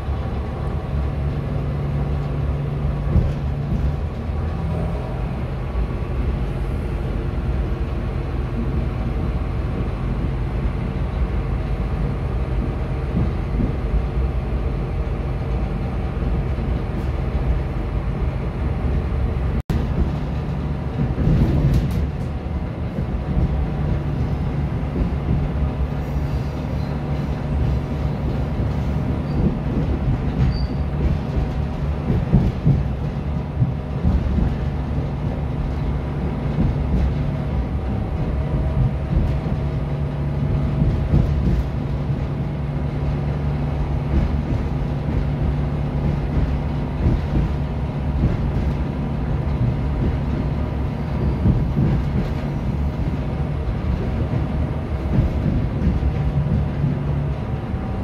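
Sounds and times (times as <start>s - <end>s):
diesel engine hum: 0.0s - 58.0s
train wheels rumbling on rails: 0.0s - 58.0s.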